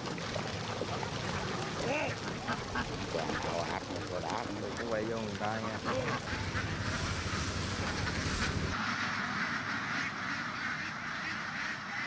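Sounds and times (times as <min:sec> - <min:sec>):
ducks quacking: 0:01.7 - 0:12.0.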